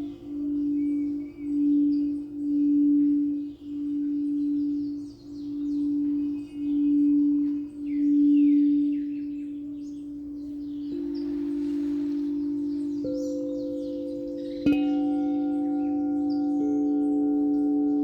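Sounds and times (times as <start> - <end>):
higher singing bowl tone: 0.0 - 18.0
singing bowl ringing: 0.0 - 18.0.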